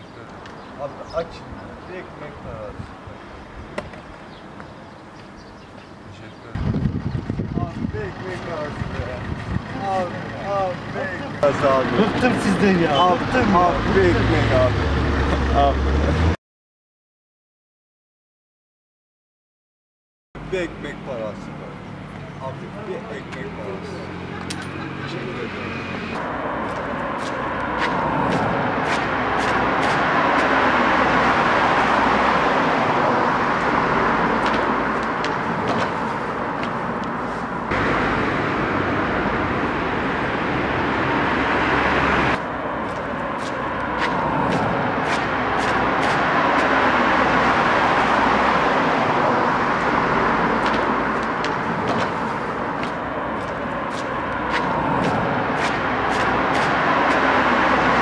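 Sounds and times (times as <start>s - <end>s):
passing vehicles: 0.0s - 16.4s, 20.4s - 58.0s.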